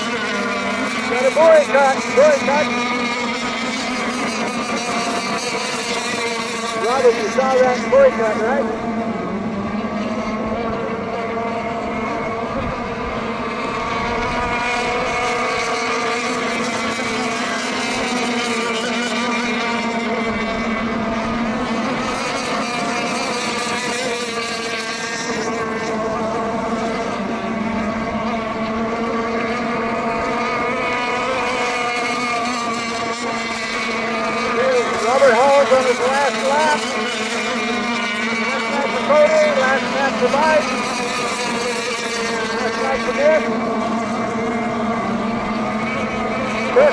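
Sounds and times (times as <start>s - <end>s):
racing boats buzzing: 0.0s - 46.9s.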